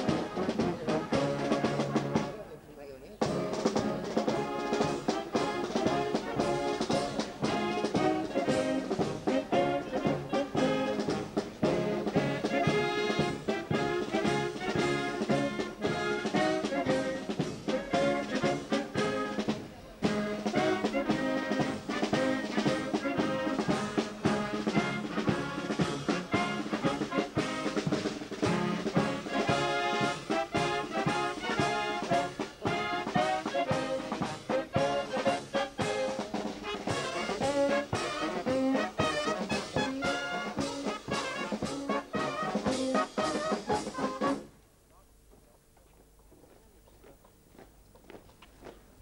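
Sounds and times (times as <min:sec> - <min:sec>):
steady drum beat: 0:00.0 - 0:44.6
wind band playing a march: 0:00.0 - 0:44.6.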